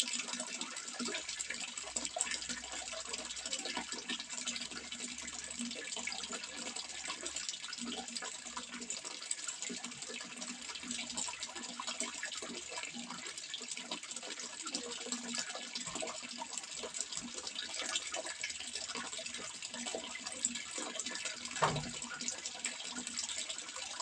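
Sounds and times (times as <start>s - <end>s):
running water splashing: 0.0s - 24.0s.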